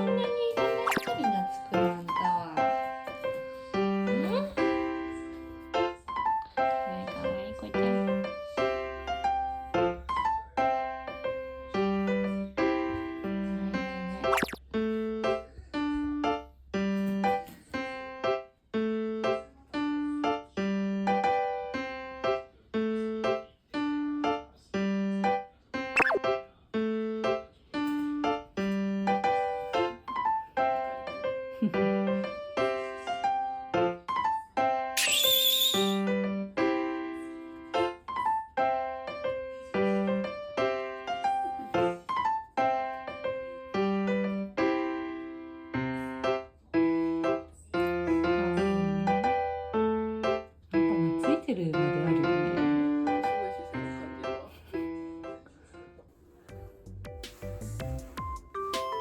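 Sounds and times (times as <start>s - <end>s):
bouncy piano tune: 0.0s - 59.0s.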